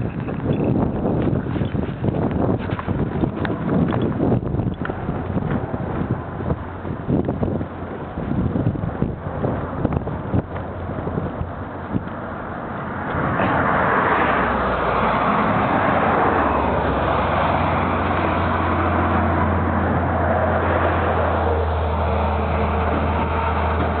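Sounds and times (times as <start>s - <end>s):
motorcycle engine drone: 0.0s - 24.0s
truck engine approaching: 0.0s - 24.0s
wind rushing over microphone: 0.0s - 24.0s.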